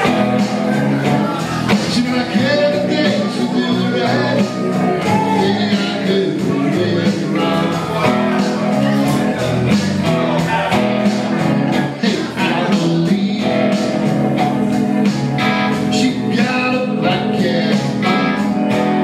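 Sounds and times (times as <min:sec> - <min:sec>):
blues rock band music: 0:00.0 - 0:19.0
electric guitar: 0:00.0 - 0:19.0.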